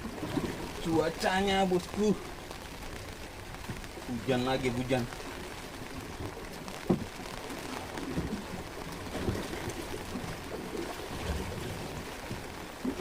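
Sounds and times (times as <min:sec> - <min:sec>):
rain hiss: 0:00.0 - 0:13.0
water splashing against hull: 0:00.0 - 0:13.0.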